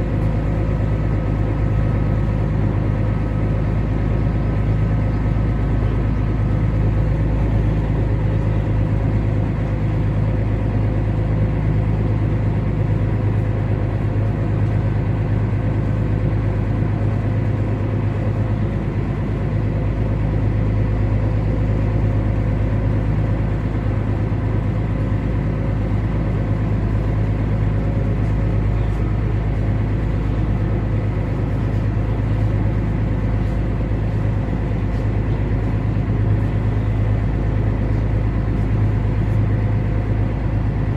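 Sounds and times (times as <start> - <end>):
ferry engine humming: 0.0 - 40.9.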